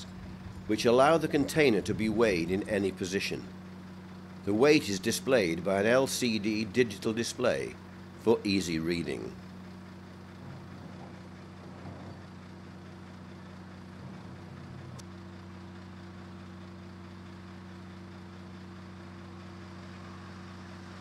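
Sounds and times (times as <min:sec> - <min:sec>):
hydraulic power unit droning: 0:00.0 - 0:17.9.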